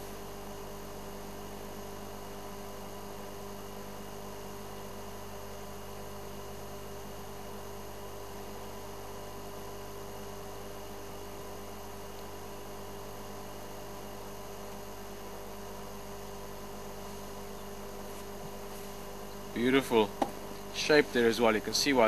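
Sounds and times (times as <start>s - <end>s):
steady multi-tone hum: 0.0s - 22.0s.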